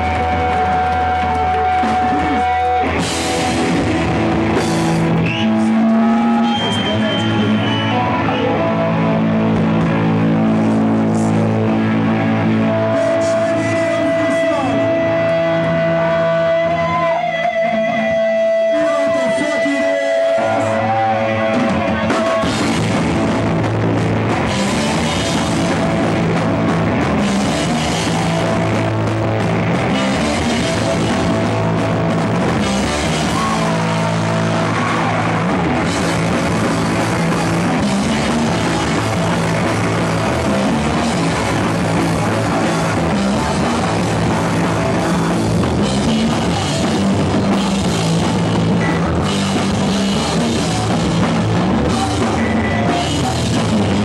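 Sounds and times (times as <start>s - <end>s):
punk band playing live: 0.0s - 54.0s.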